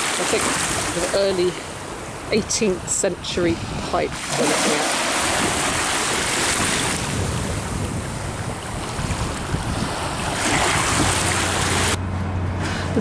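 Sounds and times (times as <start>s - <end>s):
water lapping at shore: 0.0s - 12.0s
wind buffeting microphone: 0.4s - 12.0s.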